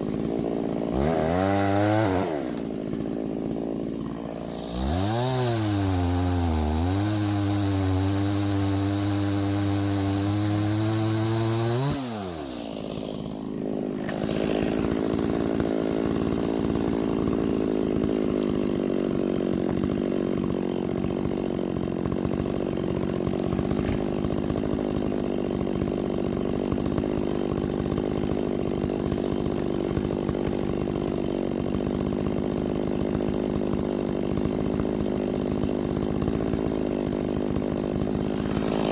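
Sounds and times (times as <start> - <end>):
chainsaw running at high revs: 0.0 - 38.9.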